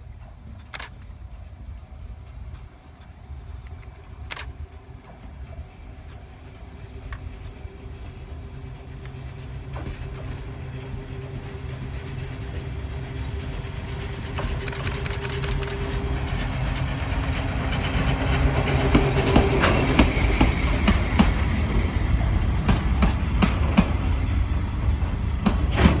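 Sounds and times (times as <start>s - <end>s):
wheels clicking over rail joints: 0.0s - 24.4s
electric locomotive approaching: 0.0s - 26.0s.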